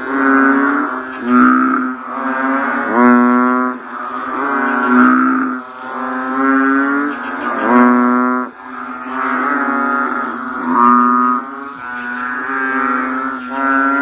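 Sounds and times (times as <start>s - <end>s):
frogs calling: 0.0s - 14.0s
high-pitched hiss: 0.0s - 14.0s.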